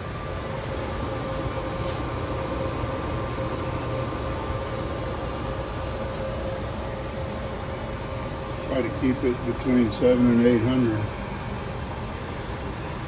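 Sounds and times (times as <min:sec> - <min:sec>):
faint steady hum: 0:00.0 - 0:13.0
gas burner roaring: 0:00.0 - 0:13.0.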